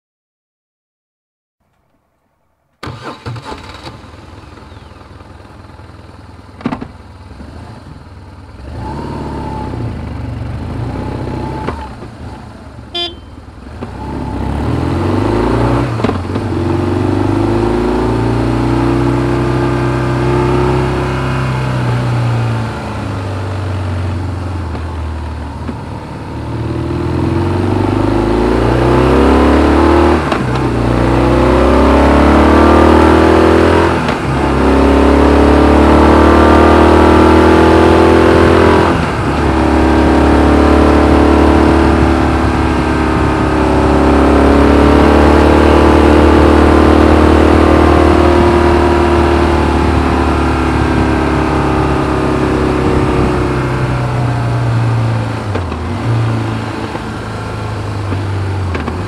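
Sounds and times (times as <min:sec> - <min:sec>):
motorcycle engine accelerating: 0:02.8 - 0:59.0.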